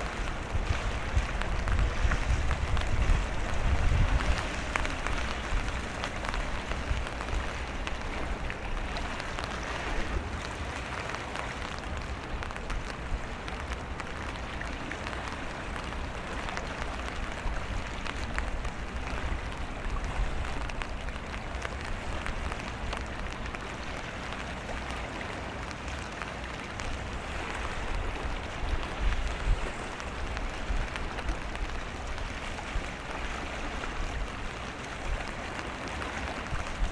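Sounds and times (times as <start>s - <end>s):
raindrops ticking: 0.0s - 36.9s
steady rain: 0.0s - 36.9s
wind rumbling on microphone: 0.0s - 36.9s.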